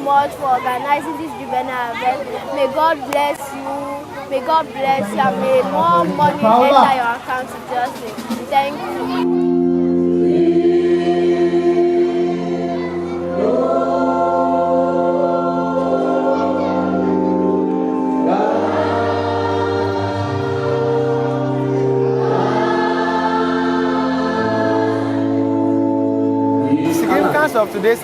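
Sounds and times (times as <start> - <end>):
choir singing a hymn: 4.5 - 27.7.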